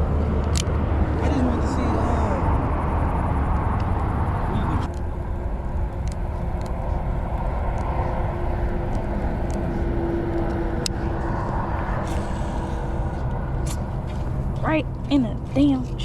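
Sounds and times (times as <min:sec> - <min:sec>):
outdoor rumble with low hum: 0:00.0 - 0:16.0.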